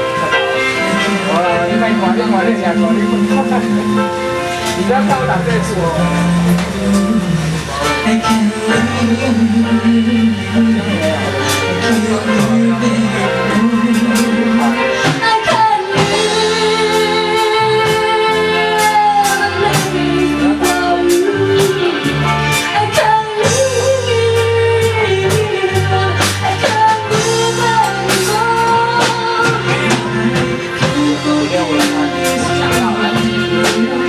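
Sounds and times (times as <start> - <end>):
drum kit steady beat: 0.0 - 34.0
guitar: 0.0 - 34.0
person singing: 0.0 - 34.0.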